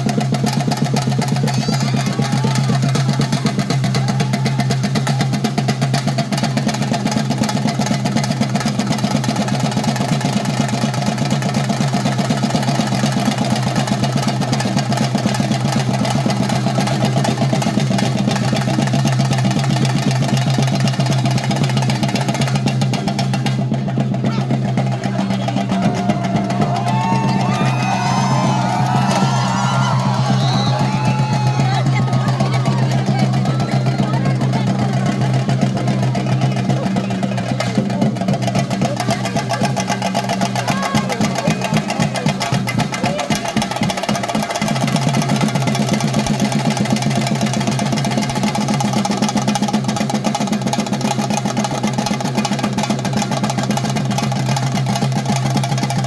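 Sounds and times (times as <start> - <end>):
rapid drum strokes: 0.0 - 56.0.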